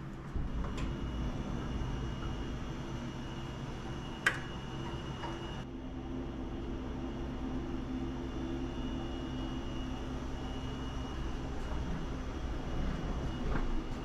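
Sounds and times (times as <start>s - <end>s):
mechanical hum: 0.0s - 14.0s
faint high whine: 0.3s - 14.0s.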